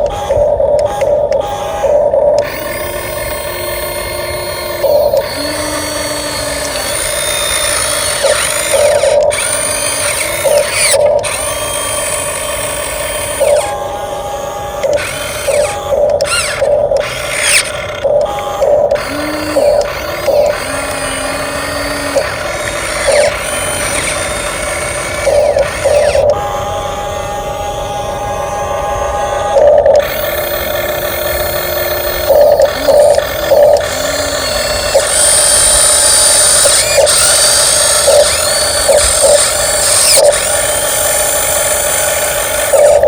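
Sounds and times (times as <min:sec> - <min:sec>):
toy truck electric motor whining: 0:00.0 - 0:43.0.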